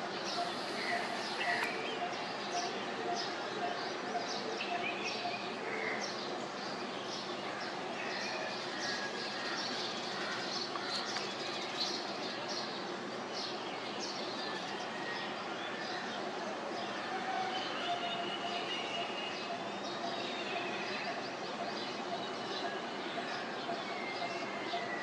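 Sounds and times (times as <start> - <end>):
outdoor background noise: 0.0 - 25.0
birds chirping: 0.2 - 25.0.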